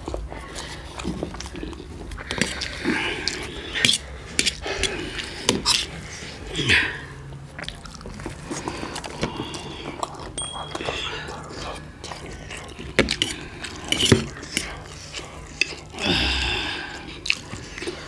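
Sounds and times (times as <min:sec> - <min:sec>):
chewing: 0:00.0 - 0:18.0
noodle slurping: 0:00.0 - 0:18.0.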